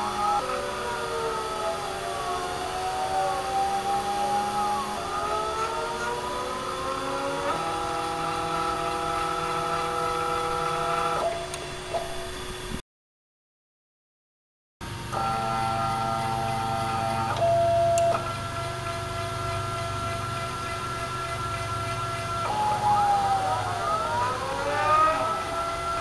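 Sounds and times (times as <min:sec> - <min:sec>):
stepper motors whining: 0:00.0 - 0:12.8, 0:14.8 - 0:26.0.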